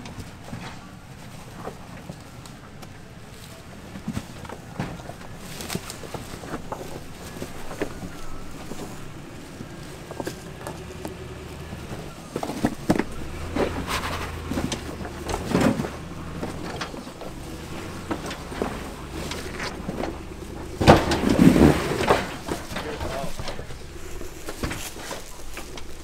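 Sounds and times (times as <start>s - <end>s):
truck engine running slowly: 0.0s - 26.0s
tyres crunching on stones: 0.0s - 26.0s.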